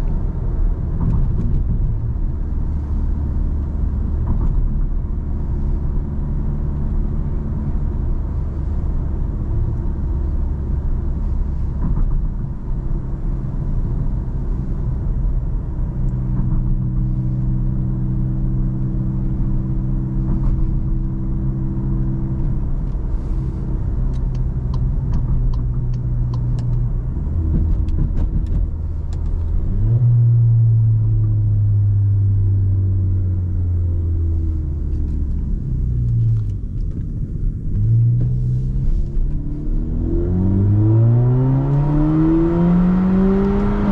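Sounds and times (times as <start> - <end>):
car engine drone: 0.0 - 43.9
tyre road noise: 0.0 - 43.9.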